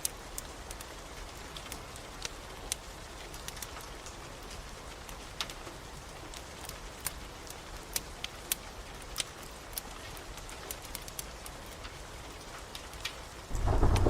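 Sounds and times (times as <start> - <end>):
fire popping: 0.0 - 14.0
rain hiss: 0.0 - 14.0
wood fire crackling: 0.0 - 14.0.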